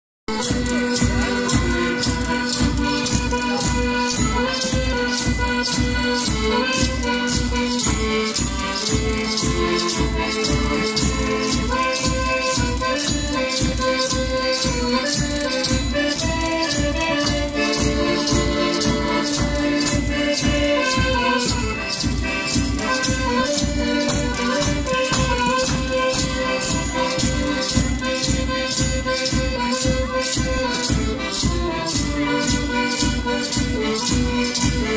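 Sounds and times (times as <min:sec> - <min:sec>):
held melody notes: 0:00.3 - 0:34.9
shaken rattle beat: 0:00.3 - 0:34.9.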